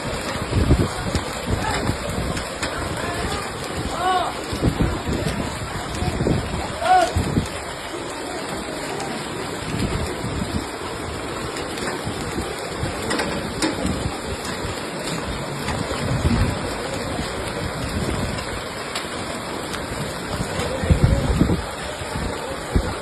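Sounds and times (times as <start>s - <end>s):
heavy rain falling: 0.0s - 23.0s
raindrops ticking: 0.0s - 23.0s
wind gusting on microphone: 0.0s - 23.0s.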